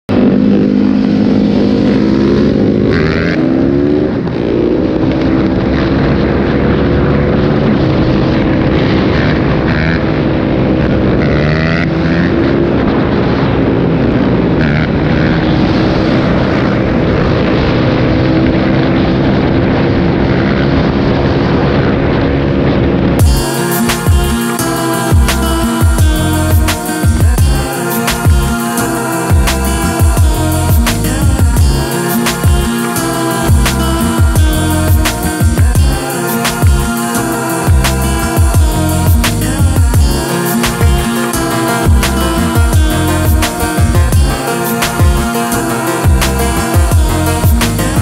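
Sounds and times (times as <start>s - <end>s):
dirt bike engines revving: 0.1s - 48.0s
wind rushing: 0.1s - 48.0s.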